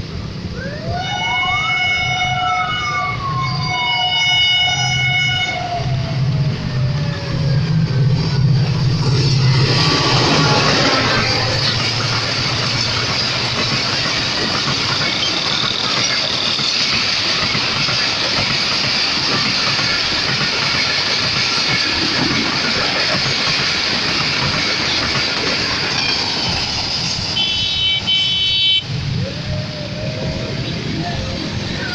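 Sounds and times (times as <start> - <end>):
train rushing past: 0.0 - 31.9.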